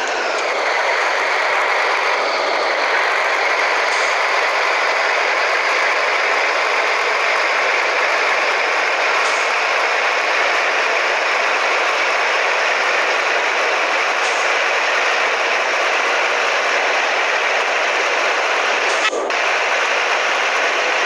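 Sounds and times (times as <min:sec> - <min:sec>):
truck diesel engine drone: 0:00.0 - 0:21.0.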